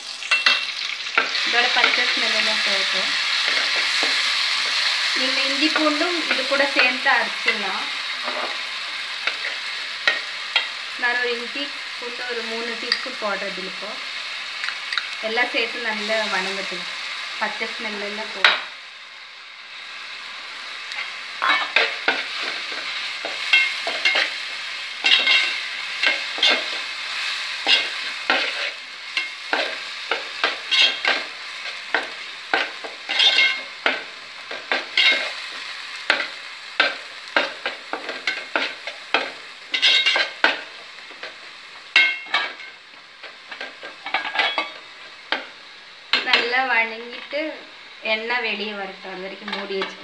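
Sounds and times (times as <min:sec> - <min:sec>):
paste sizzling in hot oil: 0:00.0 - 0:50.0.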